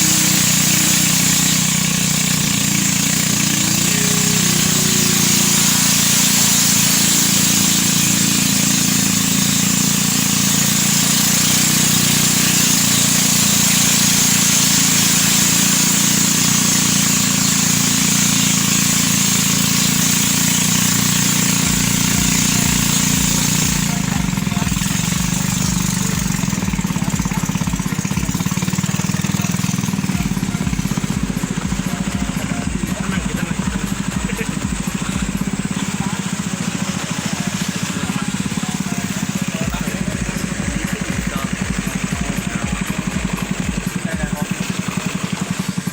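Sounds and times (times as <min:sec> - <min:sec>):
low throbbing engine: 0:00.0 - 0:45.9
small engine running: 0:00.0 - 0:45.9.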